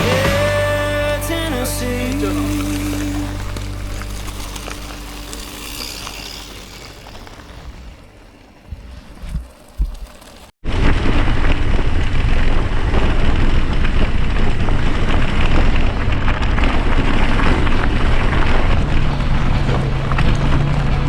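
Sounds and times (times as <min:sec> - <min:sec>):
bike tyre rumble: 0:00.0 - 0:21.0.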